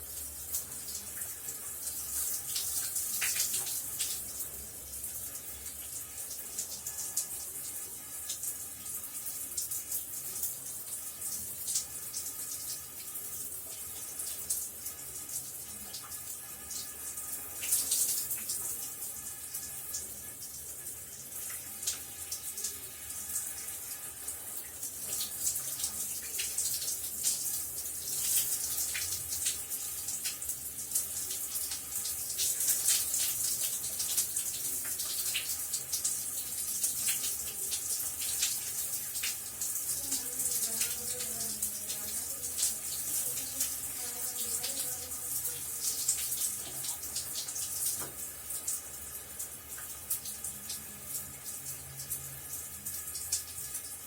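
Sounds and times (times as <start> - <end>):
shower water spraying: 0.0 - 54.0.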